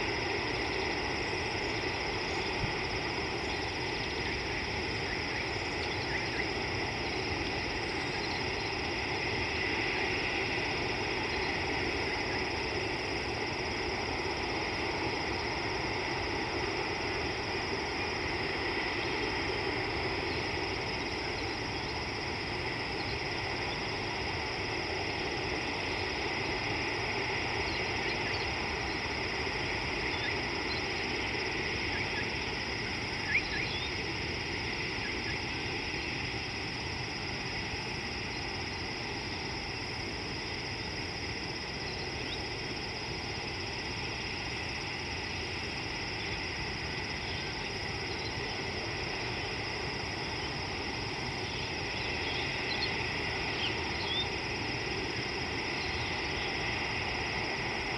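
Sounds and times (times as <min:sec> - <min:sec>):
constant high-pitched drone: 0:00.0 - 0:57.9
even outdoor hiss: 0:00.0 - 0:57.9.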